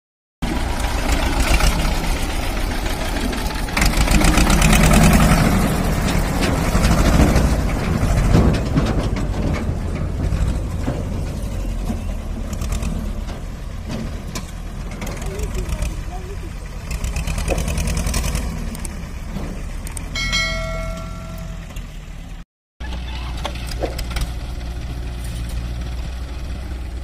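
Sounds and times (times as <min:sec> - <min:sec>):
tractor diesel engine running: 0:00.4 - 0:27.0.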